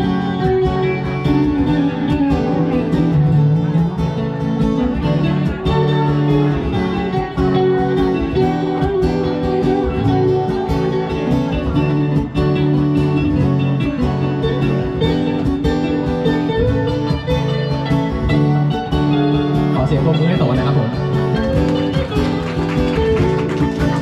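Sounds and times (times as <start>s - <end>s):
guitar-led band music: 0.0s - 24.0s
plucked guitar notes: 0.0s - 24.0s.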